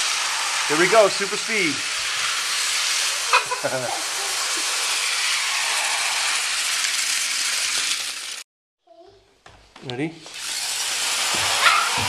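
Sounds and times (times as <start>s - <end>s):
toy train motor buzzing rattle: 0.0s - 8.4s, 10.3s - 12.0s.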